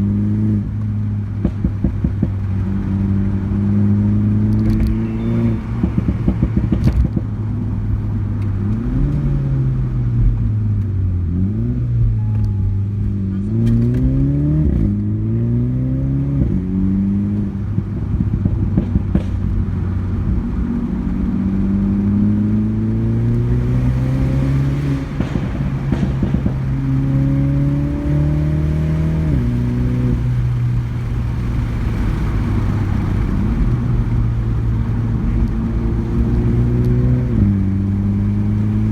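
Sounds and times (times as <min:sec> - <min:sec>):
car engine revving: 0:00.0 - 0:38.9
exhaust crackles and pops: 0:00.5 - 0:15.2, 0:16.3 - 0:38.9.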